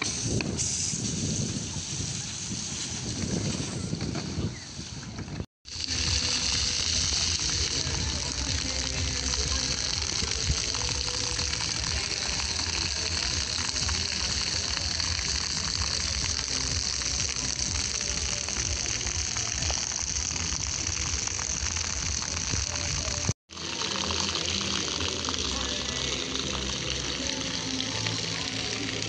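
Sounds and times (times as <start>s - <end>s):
fountain jets splashing on stone: 0.0s - 4.6s, 5.2s - 29.0s.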